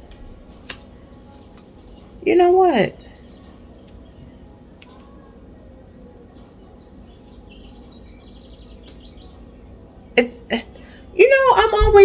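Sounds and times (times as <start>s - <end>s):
quiet background hum: 0.0s - 12.0s
bird chirping trill: 1.7s - 12.0s.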